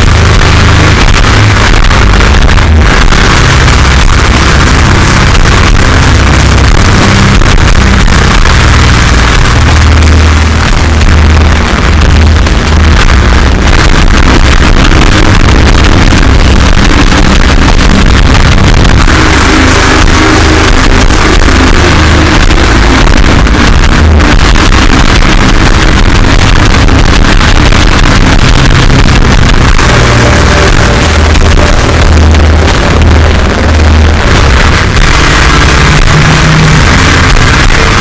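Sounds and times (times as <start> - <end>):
harsh distorted noise music: 0.0 - 38.0
heavy low rumble: 0.0 - 38.0.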